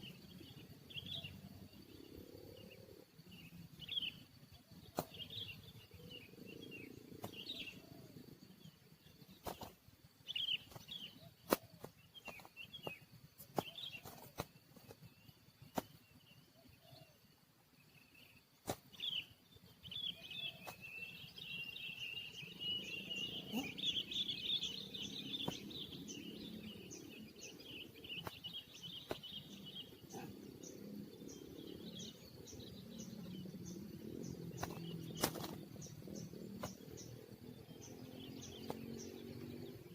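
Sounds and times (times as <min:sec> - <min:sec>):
rapid bird twittering: 0:00.0 - 0:17.2, 0:18.0 - 0:39.9
birds chirping and calling: 0:00.0 - 0:17.3, 0:18.0 - 0:39.9.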